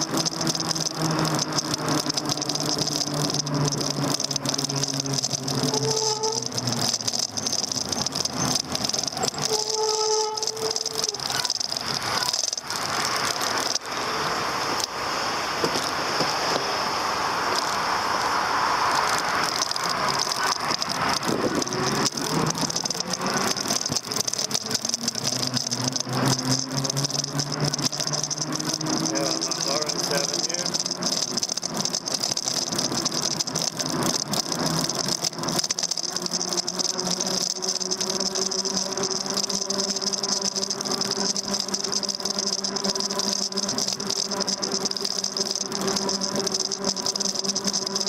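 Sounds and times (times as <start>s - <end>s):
bike frame rattling and knocking: 0.0s - 13.9s, 18.9s - 48.0s
rushing noise: 0.0s - 48.0s
steady high whine: 0.0s - 48.0s.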